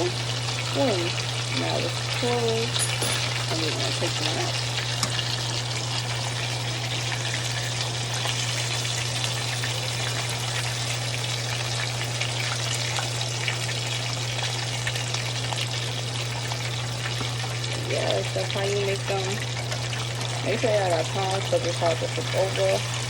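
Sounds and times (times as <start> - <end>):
hot oil sizzling: 0.0 - 23.0.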